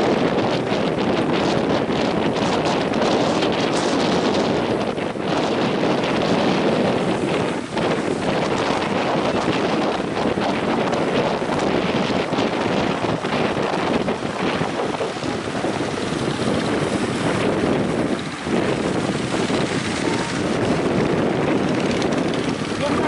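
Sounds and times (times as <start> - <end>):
heavy surf breaking: 0.0 - 23.0
wind buffeting microphone: 0.0 - 23.0.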